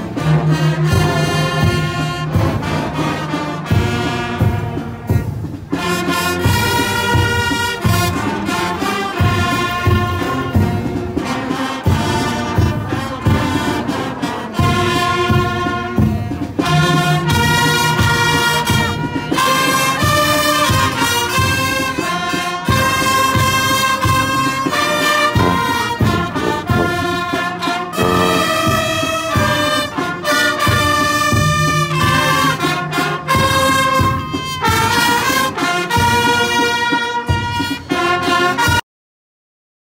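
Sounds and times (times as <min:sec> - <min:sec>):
marching brass band playing: 0:00.0 - 0:38.8.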